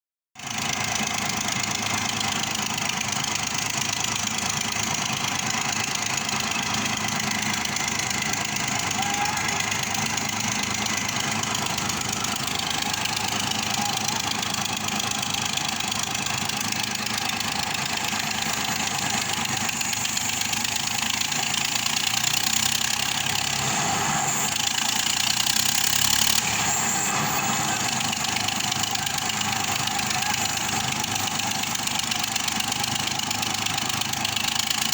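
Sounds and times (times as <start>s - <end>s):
construction machinery engine running: 0.4s - 34.9s.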